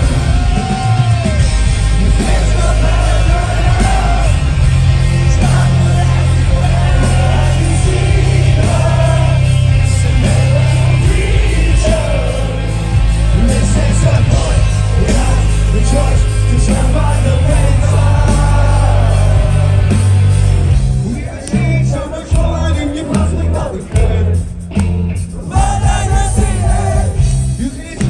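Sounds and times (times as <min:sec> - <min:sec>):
bass guitar: 0:00.0 - 0:28.0
drums: 0:00.0 - 0:28.0
person singing lead vocal: 0:00.0 - 0:28.0.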